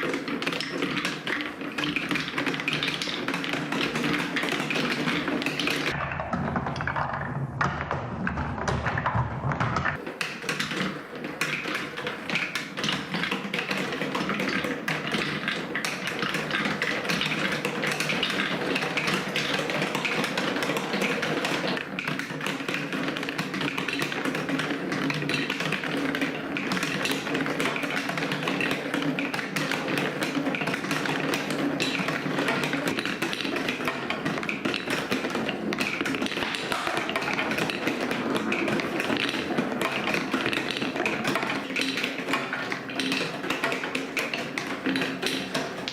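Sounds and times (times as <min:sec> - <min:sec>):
marbles clattering down plastic track: 0:00.0 - 0:45.9.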